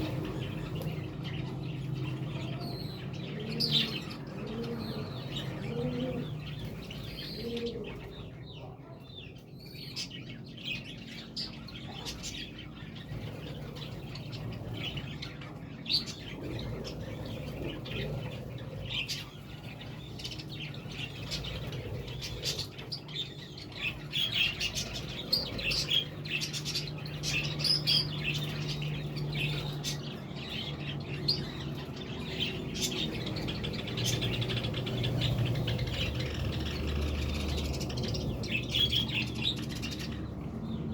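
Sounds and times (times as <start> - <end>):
budgies chirping and chattering: 0.0 - 40.9.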